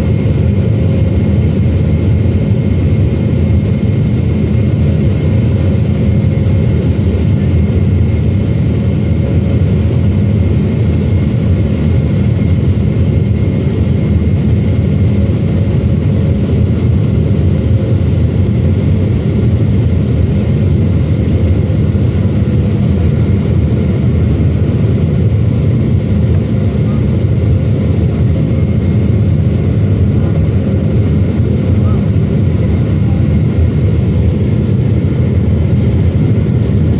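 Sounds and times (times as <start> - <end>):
jet engine cabin drone: 0.0 - 36.9.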